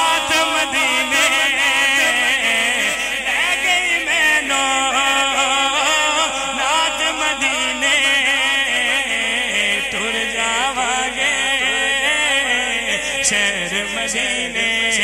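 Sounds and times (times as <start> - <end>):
man singing through microphone: 0.0 - 15.0.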